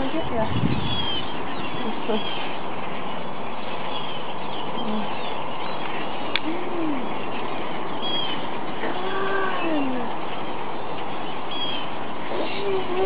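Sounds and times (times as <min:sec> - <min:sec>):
high bird chirps: 0:00.0 - 0:13.0.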